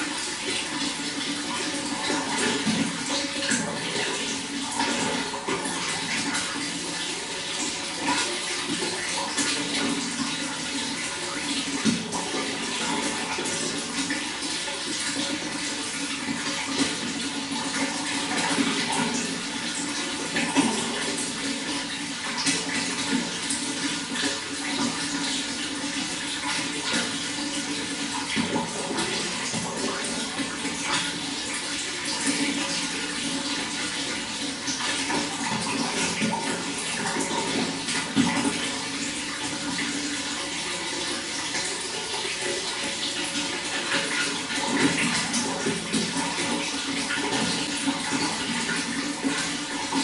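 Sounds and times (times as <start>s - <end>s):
running water flowing: 0.0s - 50.0s.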